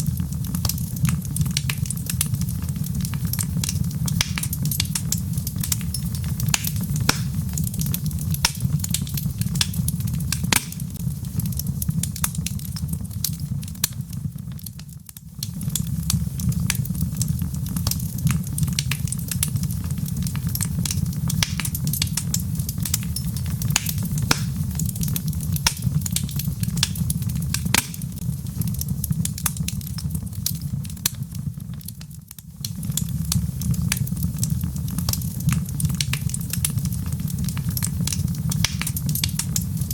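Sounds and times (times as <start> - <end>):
burning logs crackling: 0.0 - 39.9
low rumble of flame: 0.0 - 39.9.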